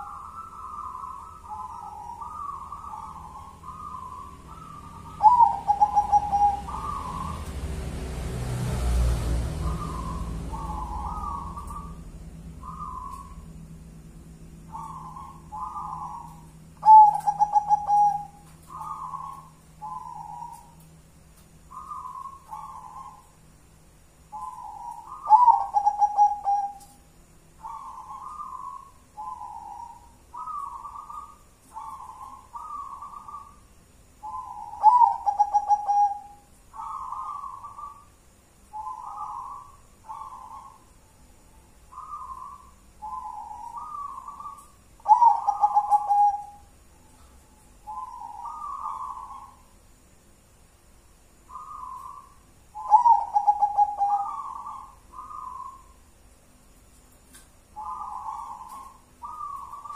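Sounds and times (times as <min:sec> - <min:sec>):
dove cooing: 0:00.0 - 0:07.8, 0:09.5 - 0:13.8, 0:14.5 - 0:20.9, 0:21.6 - 0:23.4, 0:24.3 - 0:27.0, 0:27.6 - 0:38.1, 0:38.7 - 0:49.8, 0:51.5 - 0:56.1, 0:57.8 - 0:59.9.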